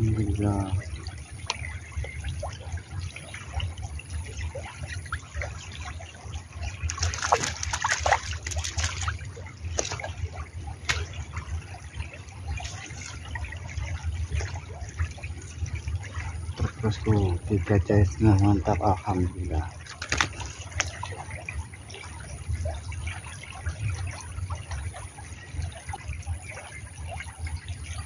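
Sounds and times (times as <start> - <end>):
river water trickling: 0.0 - 28.0
fish splashing in water: 0.8 - 16.8, 19.7 - 27.5.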